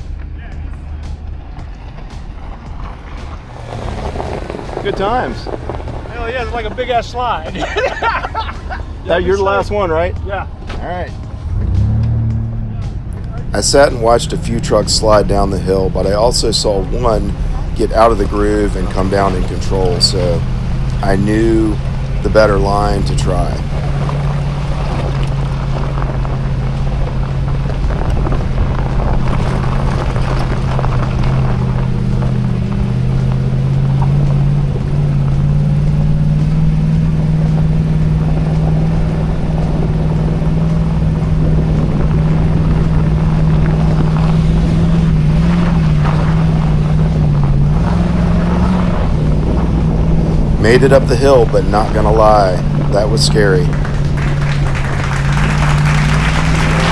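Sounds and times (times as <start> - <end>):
engine running under load: 0.0 - 56.9
tyre and trail noise: 0.0 - 56.9.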